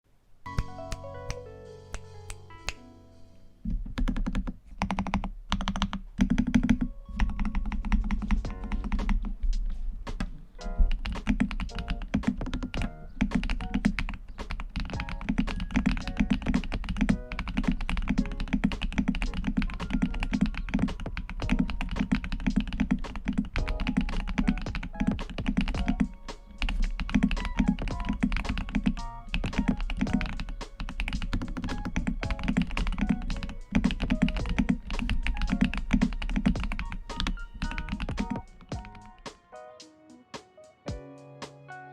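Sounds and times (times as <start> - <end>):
lofi background music: 0.5 - 3.7, 6.5 - 41.9
fast typing on mechanical keyboard: 4.0 - 9.3, 10.8 - 39.2.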